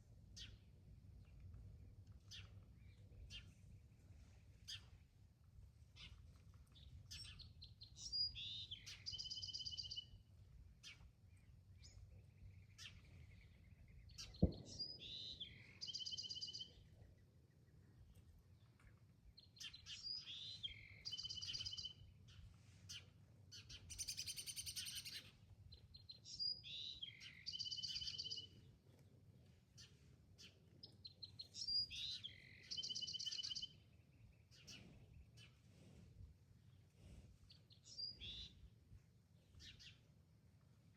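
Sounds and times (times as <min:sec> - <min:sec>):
songbird song with trill: 0:00.3 - 0:05.1, 0:05.9 - 0:28.8, 0:29.4 - 0:35.6, 0:37.5 - 0:38.7, 0:39.4 - 0:40.1.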